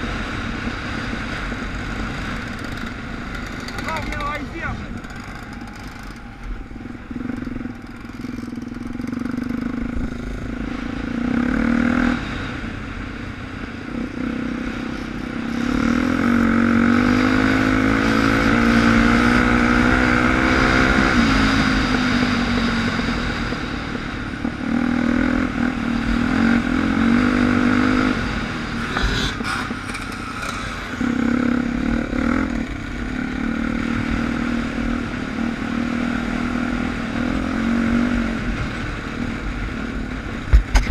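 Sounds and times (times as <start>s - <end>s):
dirt bike engine revving: 0.1s - 12.6s, 13.8s - 39.0s.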